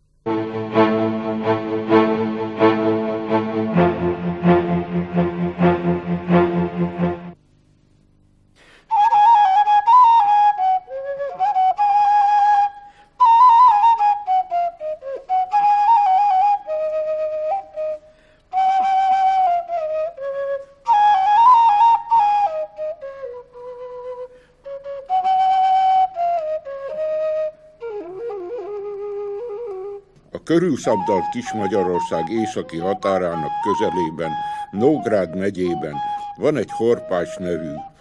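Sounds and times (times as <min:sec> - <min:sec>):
solo flute melody: 0:00.3 - 0:07.4, 0:08.9 - 0:38.0.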